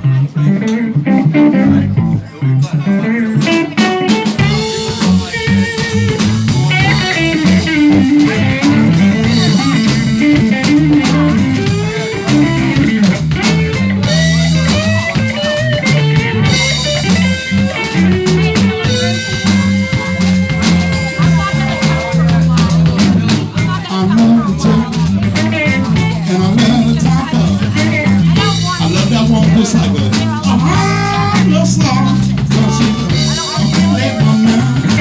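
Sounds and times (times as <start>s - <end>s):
bass: 0.0s - 35.0s
drums with steady beat: 0.0s - 35.0s
electric guitar lines: 0.0s - 35.0s.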